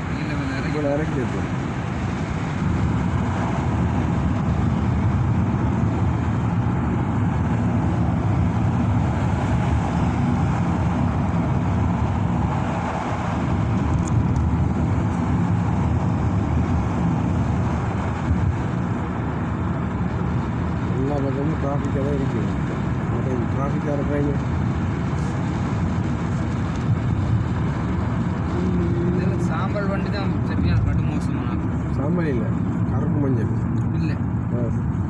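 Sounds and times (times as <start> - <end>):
road and engine noise in car: 0.0 - 35.0.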